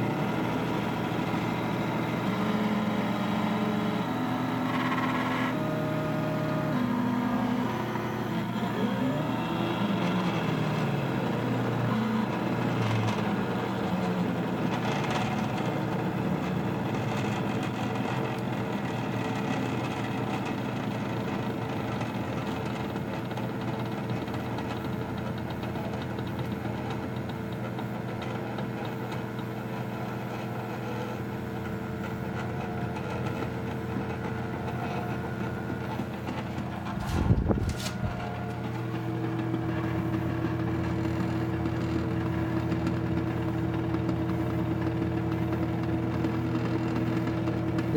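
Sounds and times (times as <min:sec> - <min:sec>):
stepper motors humming: 0:00.0 - 0:47.9.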